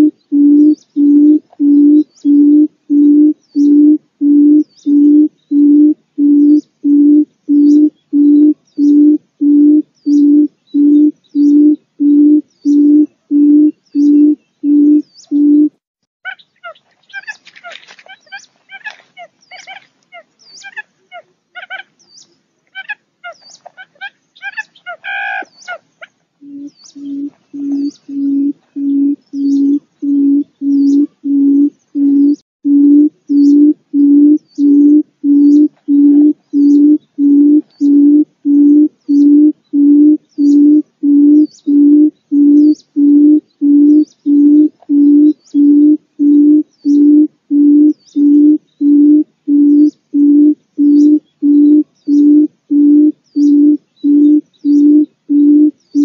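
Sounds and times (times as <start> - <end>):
low hooting bird notes: 0.0 - 15.8, 26.4 - 56.0.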